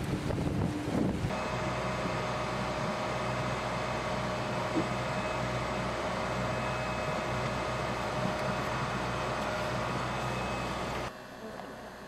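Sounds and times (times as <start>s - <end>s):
engine humming with whine: 0.0s - 12.0s.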